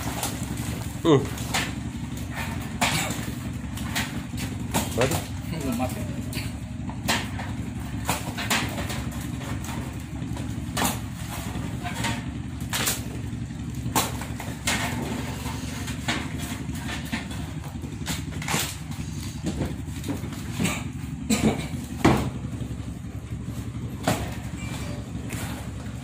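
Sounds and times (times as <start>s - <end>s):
crabs knocking in plastic crates: 0.0s - 26.0s
low motor hum: 0.0s - 26.0s.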